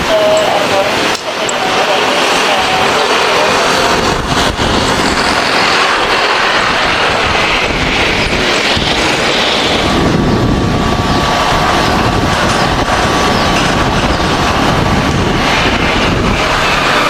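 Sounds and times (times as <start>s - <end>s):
faint jet engine whine: 0.0s - 17.0s
jet engines roaring: 0.0s - 17.0s.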